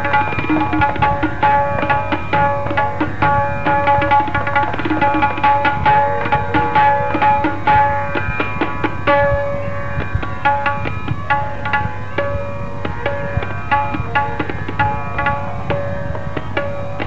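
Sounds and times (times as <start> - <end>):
tabla strokes: 0.0 - 17.0.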